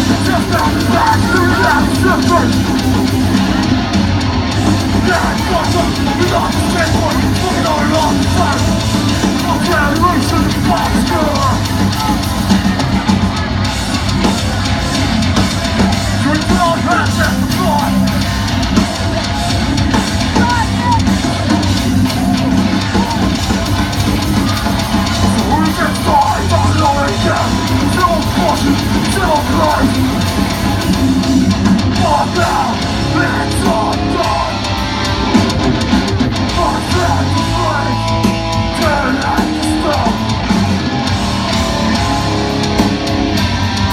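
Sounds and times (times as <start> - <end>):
bass guitar: 0.0 - 43.9
distorted guitars: 0.0 - 43.9
drums: 0.0 - 43.9
harsh shouted vocals: 0.0 - 43.9.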